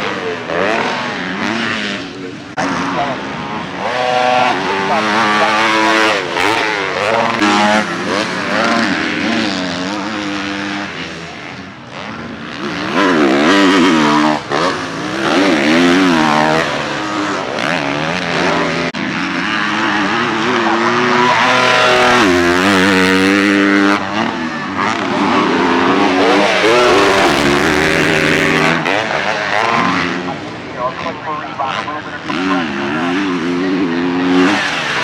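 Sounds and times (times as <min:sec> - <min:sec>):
motocross engines revving: 0:00.0 - 0:35.0.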